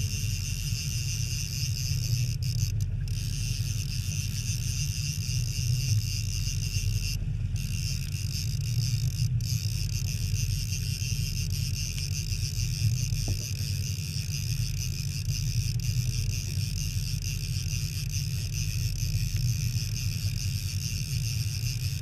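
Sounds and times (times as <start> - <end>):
boat engine and hull rumble: 0.0 - 22.0.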